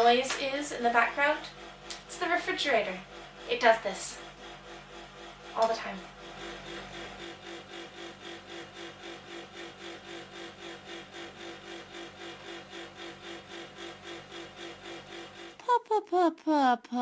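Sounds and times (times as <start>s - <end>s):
refrigerator hum: 0.0s - 17.0s
refrigerator rhythmic rasping pulse: 0.0s - 17.0s.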